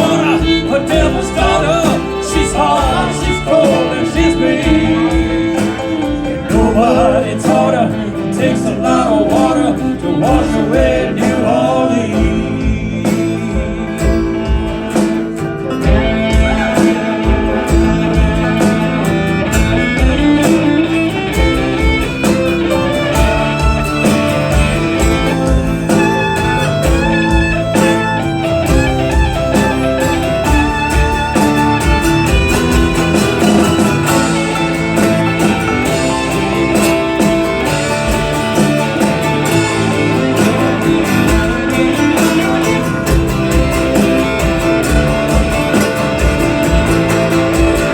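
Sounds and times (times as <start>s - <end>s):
band playing country-rock: 0.0s - 47.9s.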